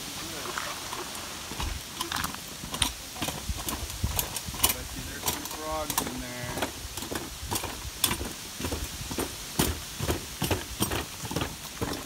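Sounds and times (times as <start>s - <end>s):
wagon wheels clattering on planks: 0.3s - 12.0s
footsteps on wooden boardwalk: 0.4s - 12.0s.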